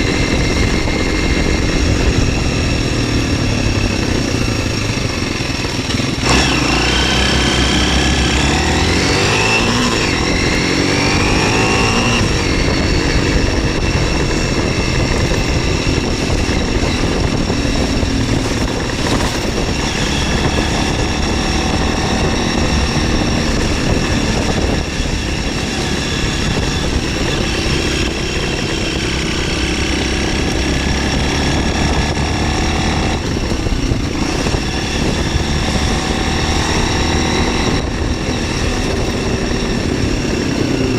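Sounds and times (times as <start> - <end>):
motorcycle engine revving: 0.0 - 40.9
wind noise on microphone: 0.0 - 40.9.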